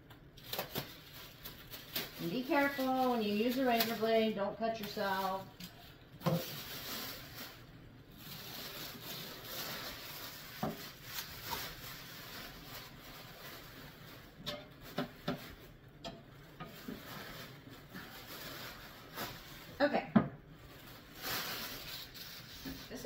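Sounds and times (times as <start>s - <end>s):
plastic wrapping crinkling: 0.2s - 23.0s.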